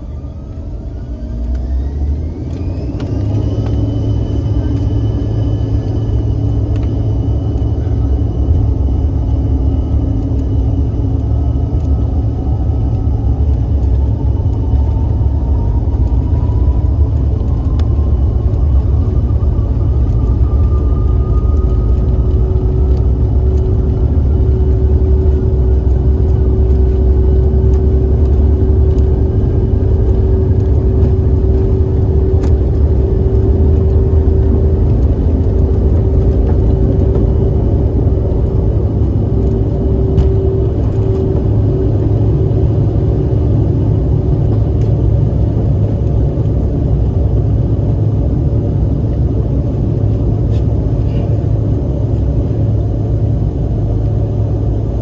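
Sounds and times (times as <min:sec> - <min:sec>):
jet engines rumbling: 0:00.0 - 0:55.0
steady hum: 0:00.0 - 0:55.0.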